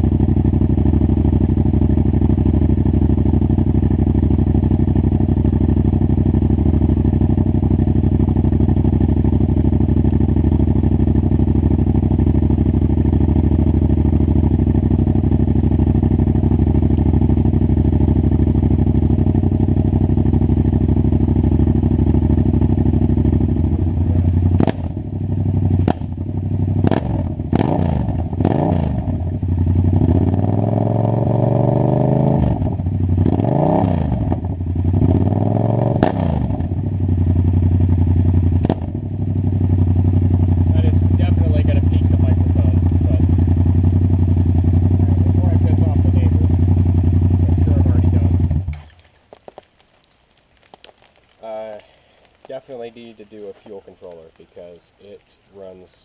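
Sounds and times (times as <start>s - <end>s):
motorcycle engine idling: 0.0s - 33.5s, 34.1s - 35.7s, 36.5s - 48.9s
motorcycle throttle blips: 0.0s - 49.6s
exhaust cracks: 0.0s - 56.0s.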